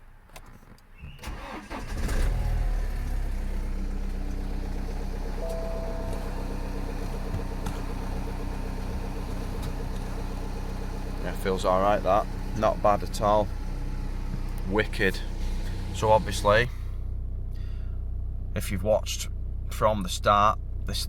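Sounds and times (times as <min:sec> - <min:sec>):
diesel engine starting and idling: 0:01.0 - 0:21.0.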